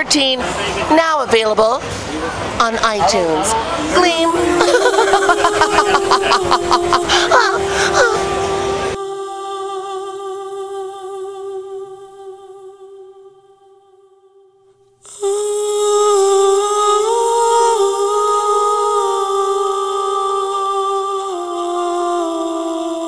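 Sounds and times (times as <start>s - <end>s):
held hum-like vocal notes: 3.1s - 14.0s, 15.1s - 23.0s.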